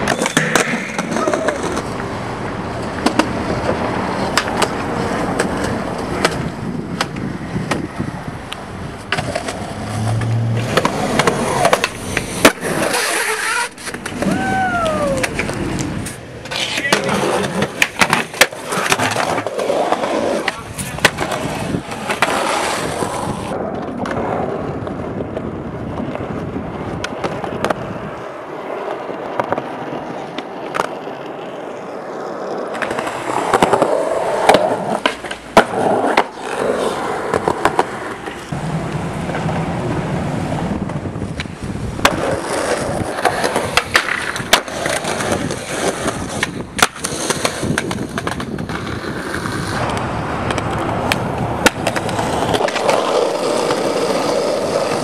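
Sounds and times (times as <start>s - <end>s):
skateboard popping and landing clacks: 0.0s - 55.0s
skateboard scraping along ledge: 0.0s - 55.0s
skateboard wheels rolling on concrete: 0.0s - 55.0s.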